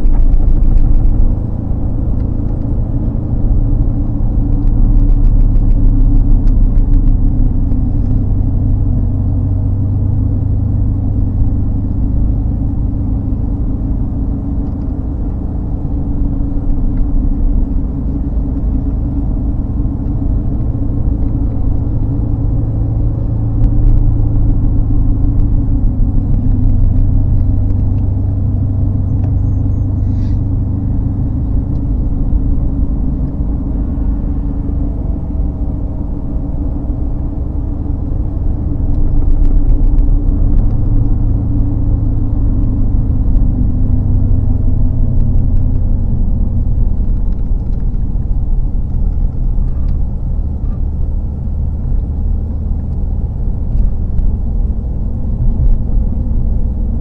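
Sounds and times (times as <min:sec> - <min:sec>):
vehicle driving rumble: 0:00.0 - 0:57.0.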